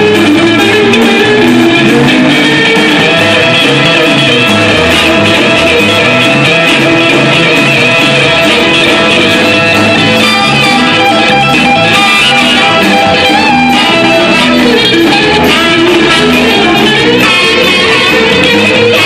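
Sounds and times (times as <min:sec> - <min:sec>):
bass and drums: 0:00.0 - 0:19.0
electric guitar: 0:00.0 - 0:19.0
harmonica: 0:00.0 - 0:19.0.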